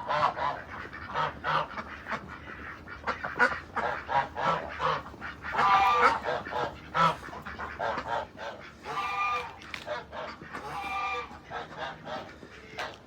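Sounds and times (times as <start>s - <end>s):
domestic waterfowl calling: 0.0s - 13.0s.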